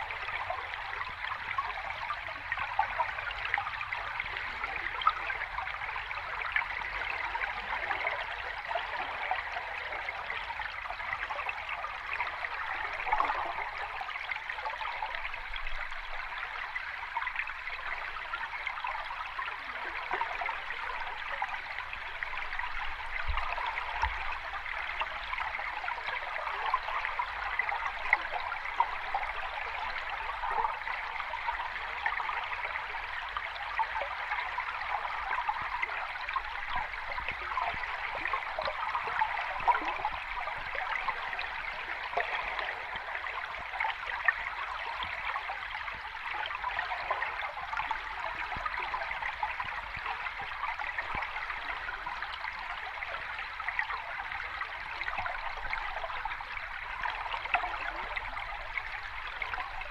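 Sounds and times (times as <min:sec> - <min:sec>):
stream splashing and babbling: 0:00.0 - 0:59.9.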